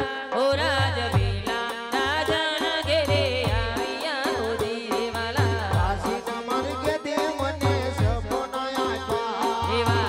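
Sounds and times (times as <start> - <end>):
woman singing into a microphone: 0.0 - 10.0
drum beat: 1.0 - 10.0.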